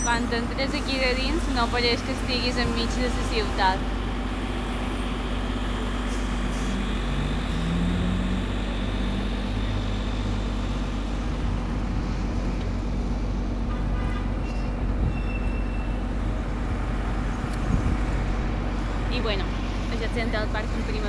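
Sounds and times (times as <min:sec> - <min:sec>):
bus engine running: 0:00.0 - 0:21.0
city street traffic: 0:00.0 - 0:21.0.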